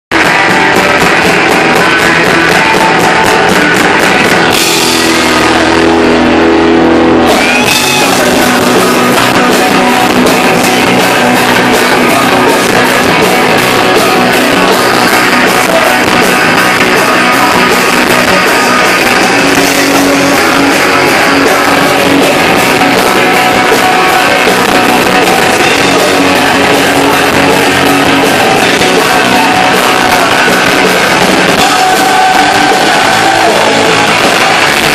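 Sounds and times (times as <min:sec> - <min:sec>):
rock band playing live: 0:00.1 - 0:34.9.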